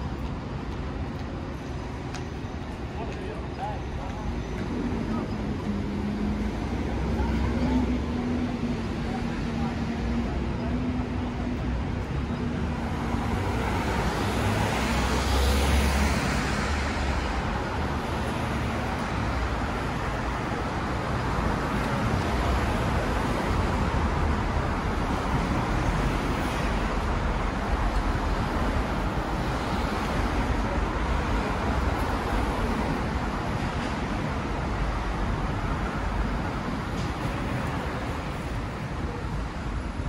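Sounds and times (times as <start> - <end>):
vehicles passing: 0.0 - 40.0.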